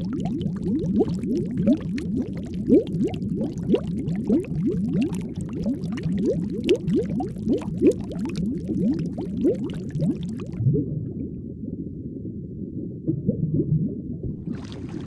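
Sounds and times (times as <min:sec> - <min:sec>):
underwater air bubbles: 0:00.0 - 0:15.0.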